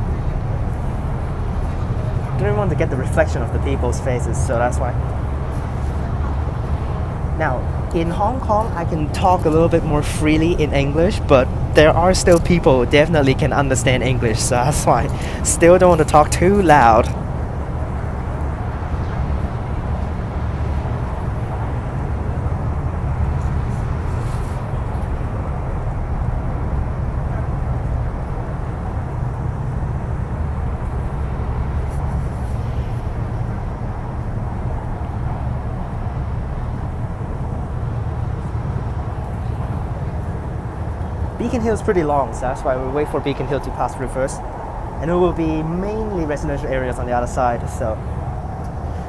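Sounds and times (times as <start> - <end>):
train rumbling in tunnel: 0.0 - 49.0.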